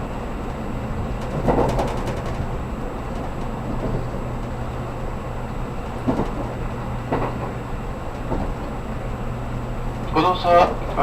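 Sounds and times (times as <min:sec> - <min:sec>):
train cabin low rumble: 0:00.0 - 0:11.0
wheels clattering on track: 0:00.0 - 0:11.0.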